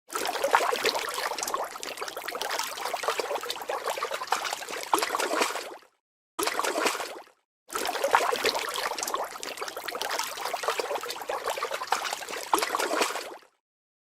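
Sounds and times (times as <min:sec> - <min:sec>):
water splashing and dribbling: 0:00.1 - 0:13.6.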